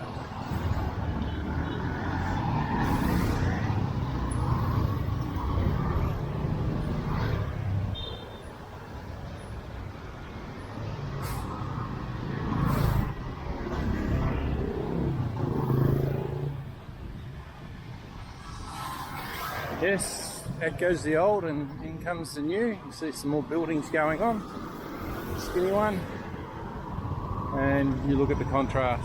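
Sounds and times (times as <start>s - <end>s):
cars passing: 0.0s - 29.0s
motorbikes passing: 0.0s - 29.0s.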